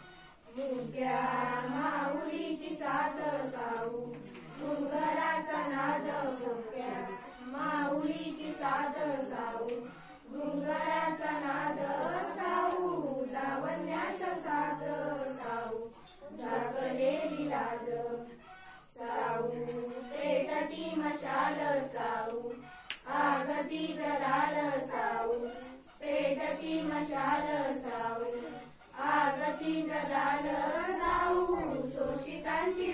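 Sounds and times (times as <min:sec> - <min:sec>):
girls singing together: 0:00.0 - 0:32.9.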